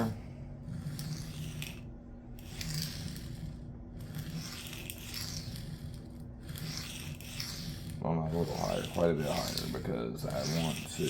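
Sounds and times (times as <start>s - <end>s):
sharpening stone scraping knife: 0.7s - 1.8s, 2.4s - 11.0s.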